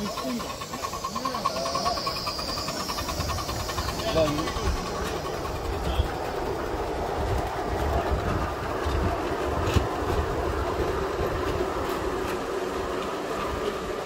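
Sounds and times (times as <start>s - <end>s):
small train wheels rumbling on rails: 0.0s - 14.0s.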